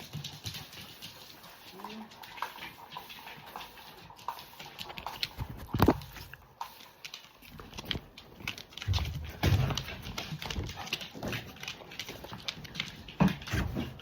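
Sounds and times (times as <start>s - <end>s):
dog claws clicking on floor: 0.0s - 14.0s.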